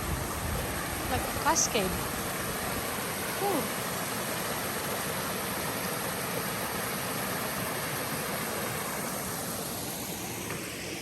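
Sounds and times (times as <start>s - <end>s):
river rushing over rocks: 0.0s - 10.4s.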